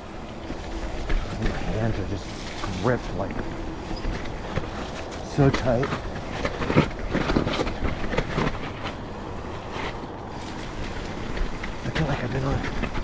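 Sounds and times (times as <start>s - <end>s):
bike knocking and rattling: 0.0s - 13.0s
bike tyre noise on dirt: 0.0s - 13.0s.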